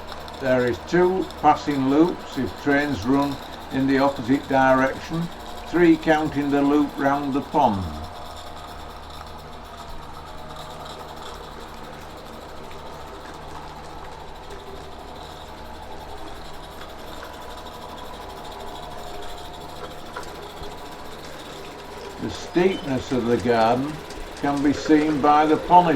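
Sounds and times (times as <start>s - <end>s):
model train running: 0.0s - 25.9s.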